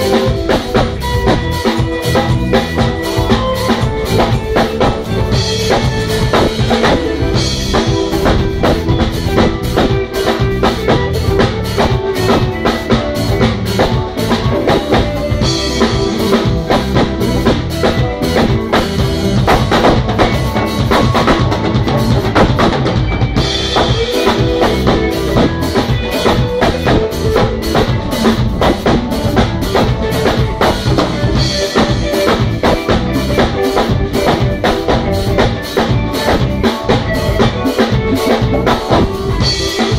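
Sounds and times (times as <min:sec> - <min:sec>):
drum kit beat: 0:00.0 - 0:39.9
keyboard bass line: 0:00.0 - 0:39.9
keyboard chords: 0:00.0 - 0:39.9.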